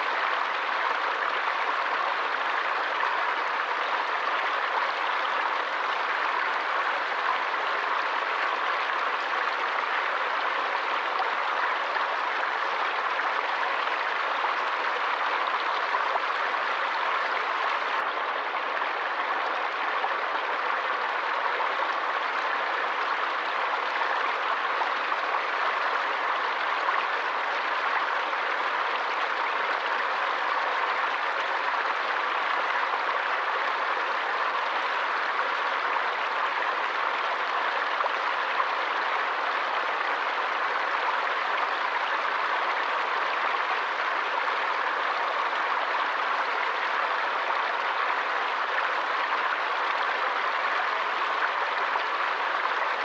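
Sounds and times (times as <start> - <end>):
forest stream water flowing: 0.0 - 53.0.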